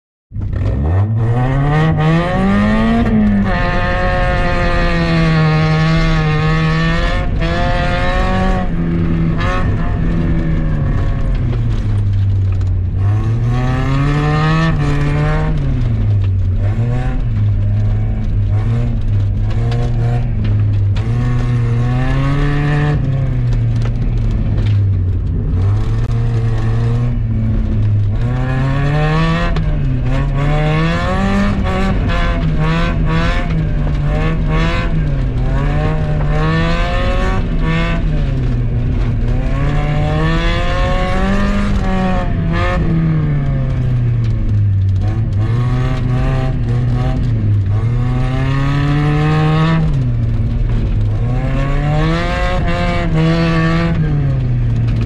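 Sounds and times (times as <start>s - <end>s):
car engine accelerating and shifting: 0.3s - 55.0s
tyre and road noise on dirt: 0.3s - 55.0s.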